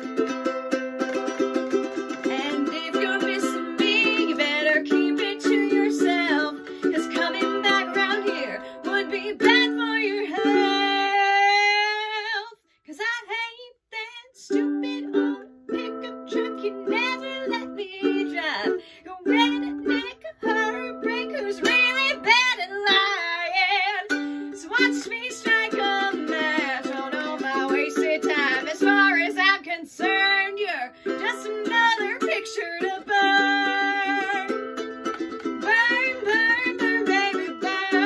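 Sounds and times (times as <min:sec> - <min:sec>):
ukulele strumming: 0:00.0 - 0:12.4, 0:14.0 - 0:38.0
woman singing: 0:01.1 - 0:38.0.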